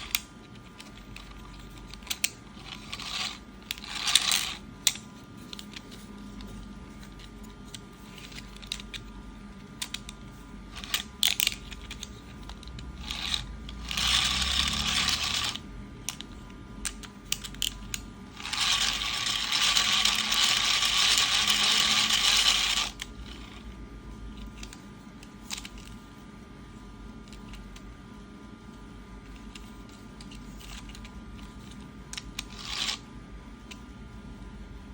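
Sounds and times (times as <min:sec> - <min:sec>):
plastic gears whirring: 0:00.0 - 0:09.1, 0:09.8 - 0:23.7, 0:24.4 - 0:26.0, 0:29.3 - 0:33.8.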